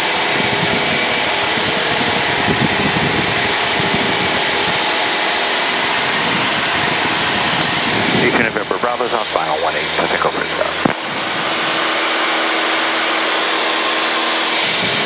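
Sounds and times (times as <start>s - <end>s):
small plane engine and propeller drone: 0.0s - 15.0s.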